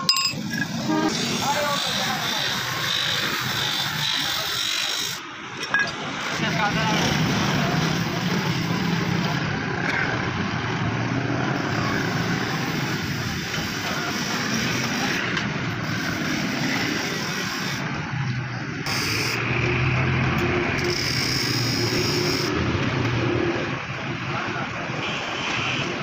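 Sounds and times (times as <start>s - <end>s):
motor traffic noise: 0.0s - 26.0s.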